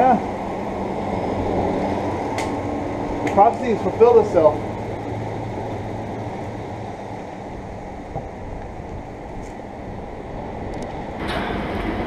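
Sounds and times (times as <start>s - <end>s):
wind rumble on microphone: 0.2s - 12.0s.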